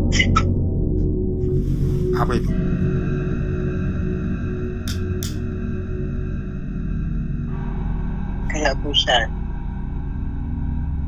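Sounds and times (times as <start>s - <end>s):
eerie droning music: 0.0s - 11.0s.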